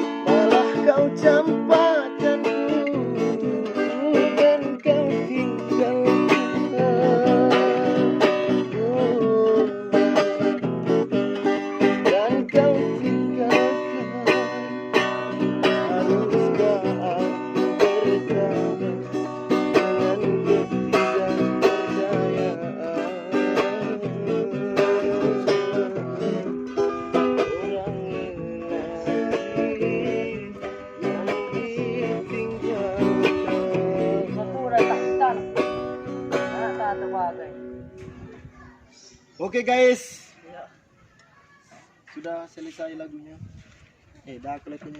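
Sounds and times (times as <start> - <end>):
plucked string instrumental music: 0.0 - 38.5.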